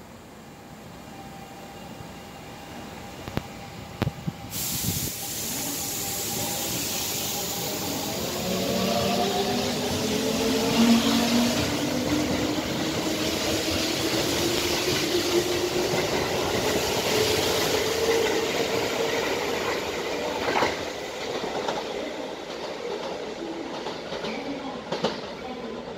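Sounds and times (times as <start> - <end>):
train wheels rumbling: 3.4 - 25.9.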